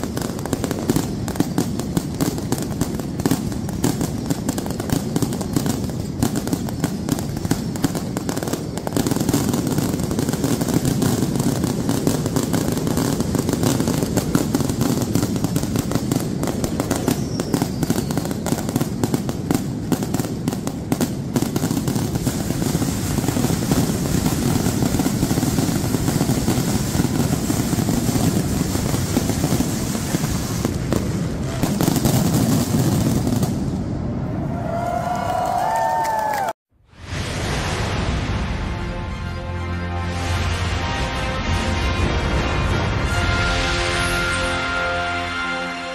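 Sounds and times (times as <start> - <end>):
fireworks crackling bangs: 0.0 - 34.4, 35.6 - 39.5, 40.1 - 45.9.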